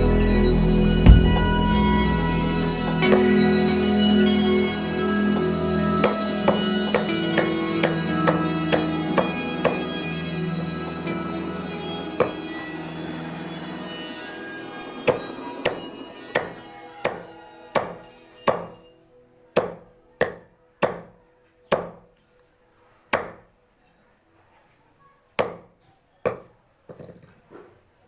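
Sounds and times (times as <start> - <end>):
background music: 0.0 - 24.6.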